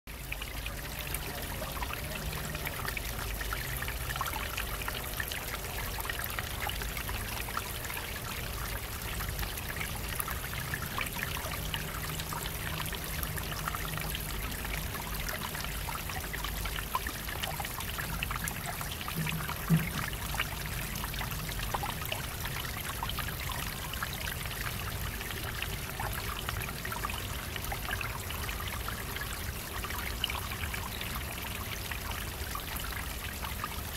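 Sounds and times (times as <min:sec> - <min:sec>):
water trickling down stone wall: 0:00.1 - 0:33.9.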